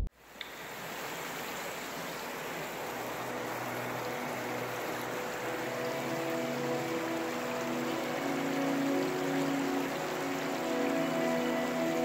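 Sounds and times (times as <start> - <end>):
waterfall rushing over rocks: 0.2 - 12.0
faint music tones: 2.1 - 12.0.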